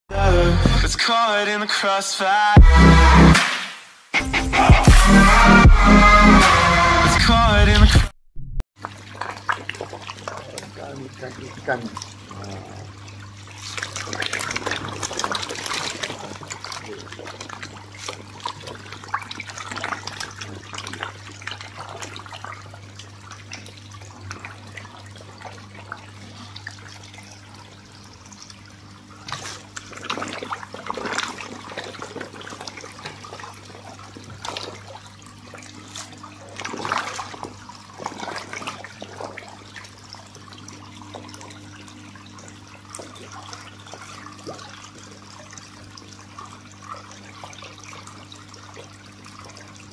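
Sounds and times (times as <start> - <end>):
fish thrashing and splashing: 8.8 - 49.9.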